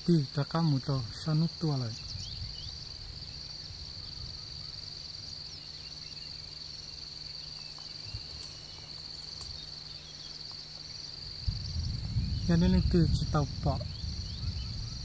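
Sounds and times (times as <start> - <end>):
insects trilling: 0.0 - 15.0
low steady rumble: 0.0 - 15.0.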